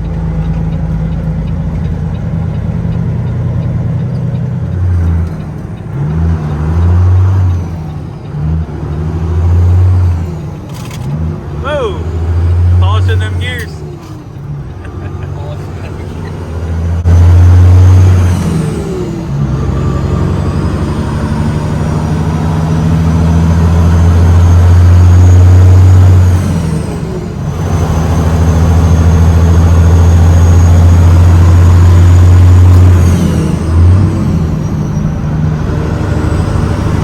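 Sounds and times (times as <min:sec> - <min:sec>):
truck diesel engine under load: 0:00.0 - 0:37.0.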